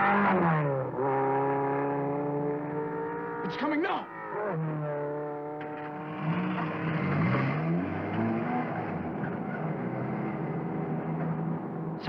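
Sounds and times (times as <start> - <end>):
cartoon race car engine: 0.0 - 10.2.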